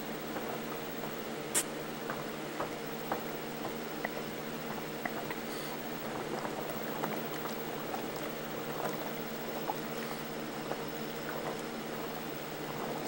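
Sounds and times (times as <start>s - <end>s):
aquarium air bubbling: 0.0s - 13.0s
faint steady hum: 0.0s - 13.0s.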